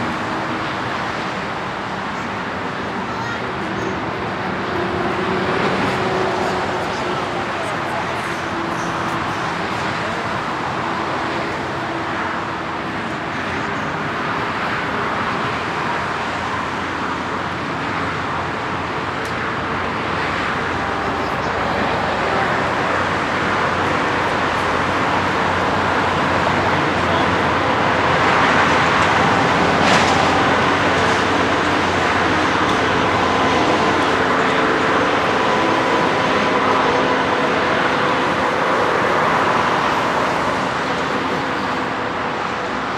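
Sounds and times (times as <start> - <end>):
jet engines roaring: 0.0 - 42.9
traffic-like rush: 0.0 - 42.9.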